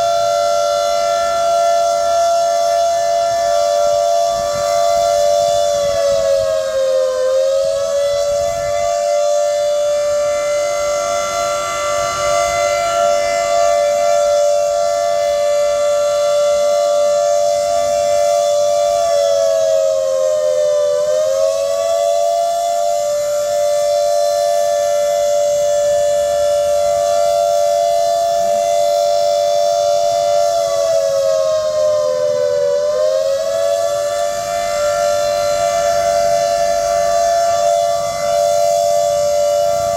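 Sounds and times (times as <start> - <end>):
two-note emergency siren wail: 0.0 - 39.9.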